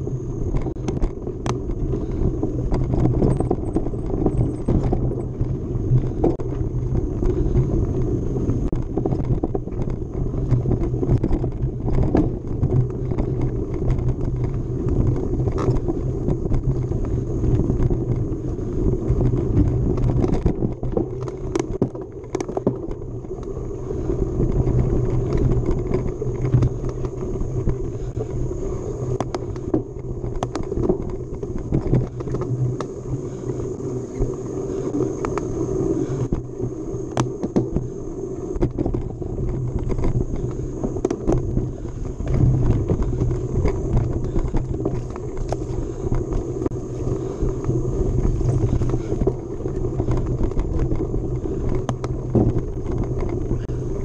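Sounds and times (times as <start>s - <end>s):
bike clicks and rattles: 0.0s - 54.0s
bike ride rumble: 0.0s - 54.0s.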